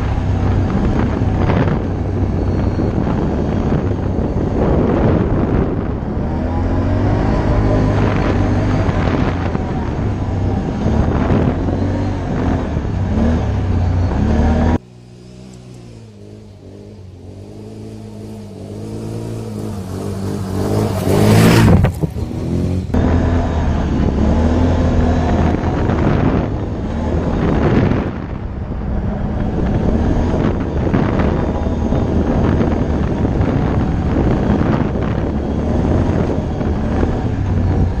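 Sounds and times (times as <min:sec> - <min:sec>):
atv engine running: 0:00.0 - 0:38.0
atv passing close by: 0:00.0 - 0:38.0.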